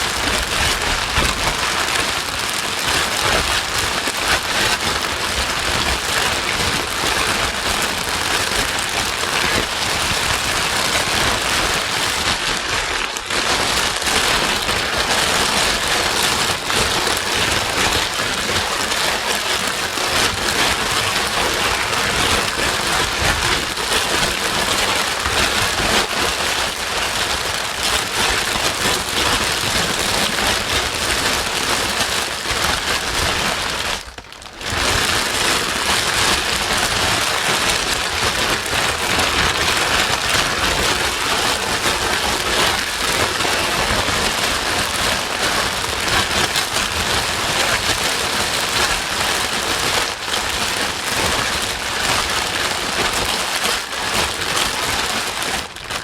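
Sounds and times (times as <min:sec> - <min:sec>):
loud white noise: 0:00.0 - 0:55.9
rain hiss and patter: 0:00.0 - 0:56.0.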